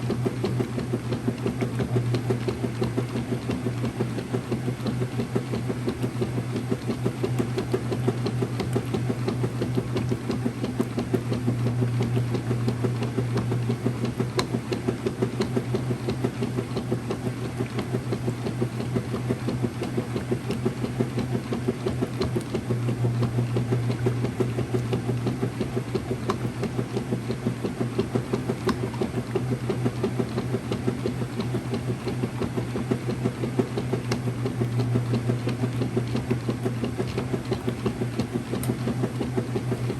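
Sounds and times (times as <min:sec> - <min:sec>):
washing machine churning: 0:00.0 - 0:39.9.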